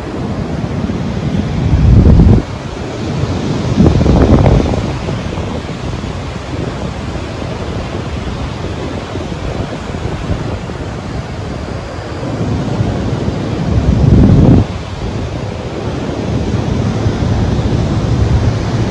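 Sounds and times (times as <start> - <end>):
sea surf rushing: 0.0 - 18.9
wind noise on microphone: 0.0 - 18.9.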